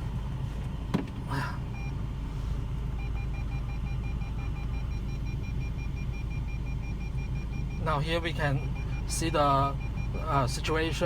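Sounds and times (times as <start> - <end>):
car engine idling: 0.0 - 11.0
reversing warning beeps: 1.4 - 11.0.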